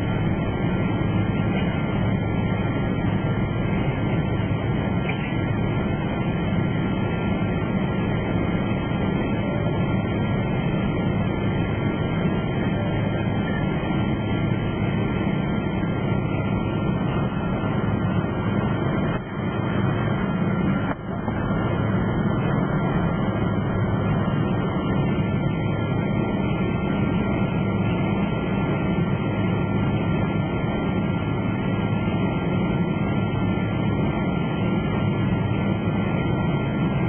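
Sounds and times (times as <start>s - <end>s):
airliner cabin drone: 0.0s - 37.0s
faint steady whine: 0.0s - 37.0s.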